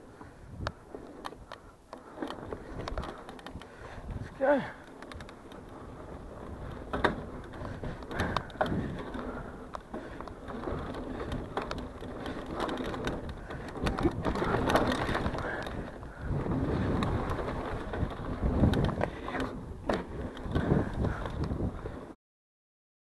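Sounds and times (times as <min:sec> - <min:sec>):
wind buffeting microphone: 0:00.0 - 0:01.6, 0:02.3 - 0:22.2
tyres rolling on dirt: 0:00.0 - 0:22.1
bike clicks and rattles: 0:00.0 - 0:22.2.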